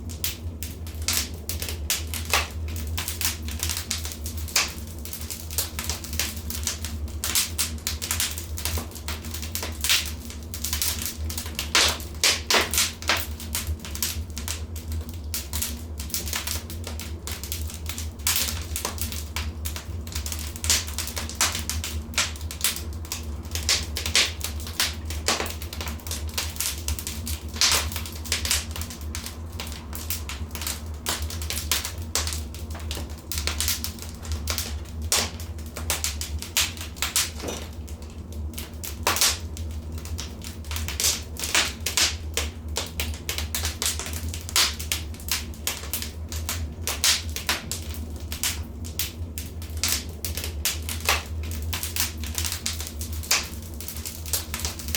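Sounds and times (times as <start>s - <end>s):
steady low hum: 0.0s - 54.9s
wood fire crackling: 0.0s - 54.9s.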